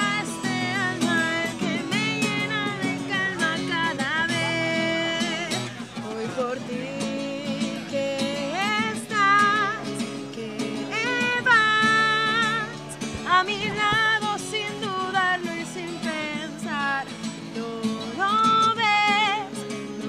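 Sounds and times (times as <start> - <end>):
acoustic guitar: 0.0 - 20.0
woman singing with vibrato: 0.0 - 20.0.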